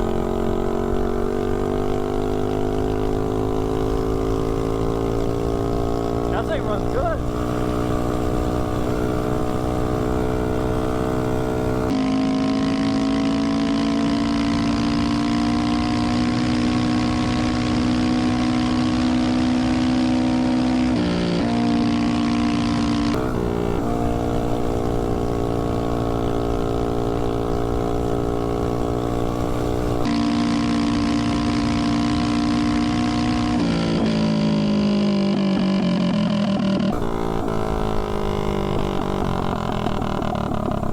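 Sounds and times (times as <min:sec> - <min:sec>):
mini bike engine revving high: 0:00.0 - 0:15.1, 0:15.7 - 0:40.9.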